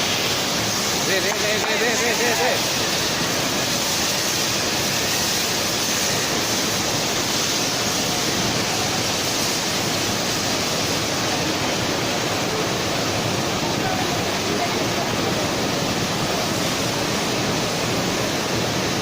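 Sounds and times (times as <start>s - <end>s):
loud rushing industrial hiss: 0.0s - 19.0s.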